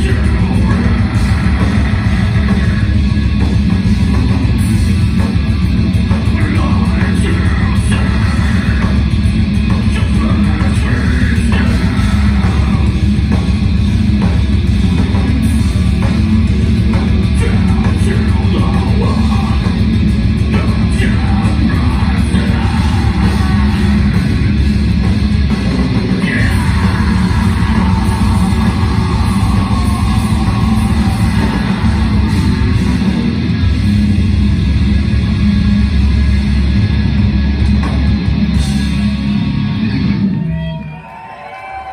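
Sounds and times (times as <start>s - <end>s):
metal band playing live: 0.0s - 41.9s.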